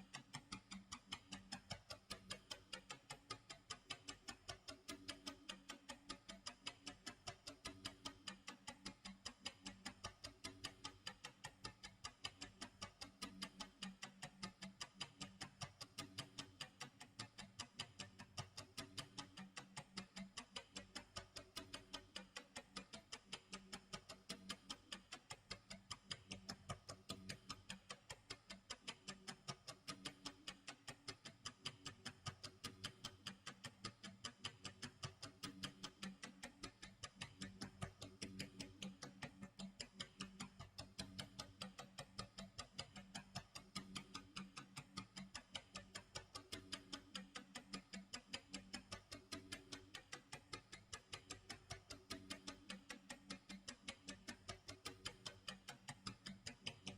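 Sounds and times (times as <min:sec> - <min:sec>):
faint clock ticking: 0:00.0 - 0:56.9.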